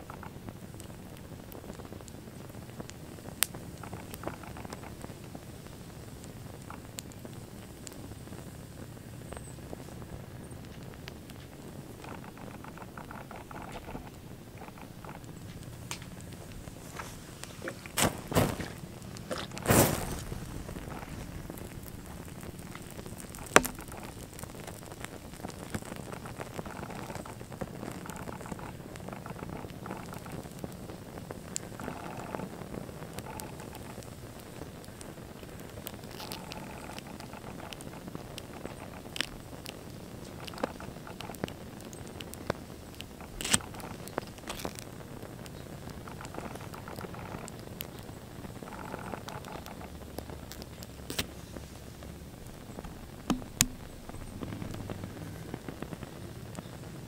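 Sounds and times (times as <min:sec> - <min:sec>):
flames crackling: 0:00.0 - 0:57.0.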